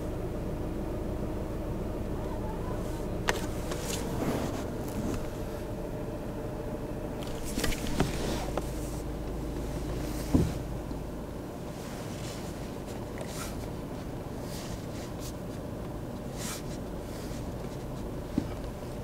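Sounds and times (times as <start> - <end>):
car engine and road hum: 0.0 - 19.0.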